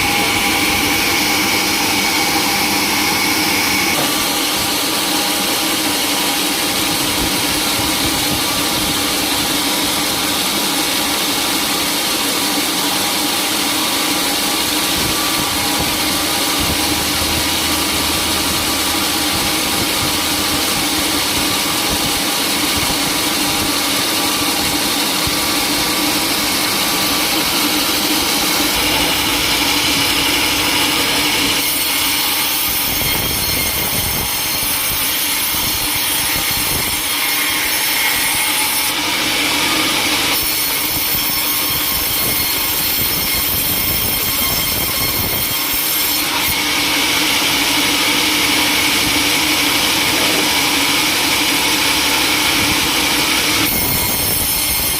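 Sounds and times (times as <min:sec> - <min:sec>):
saw blade cutting wood: 0:00.0 - 0:54.9
sawmill machinery drone: 0:00.0 - 0:54.9.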